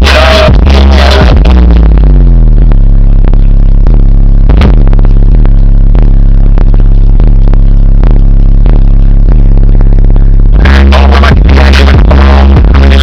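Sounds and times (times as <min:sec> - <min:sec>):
distortion clicks: 0:00.0 - 0:13.0
loud bass-heavy music from subwoofer: 0:00.0 - 0:13.0.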